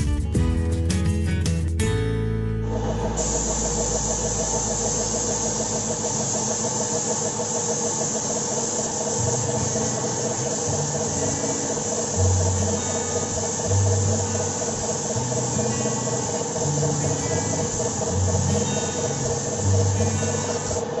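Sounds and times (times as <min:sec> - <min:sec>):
motor hum: 0:02.4 - 0:21.0
paint spray gun hissing: 0:02.6 - 0:21.0.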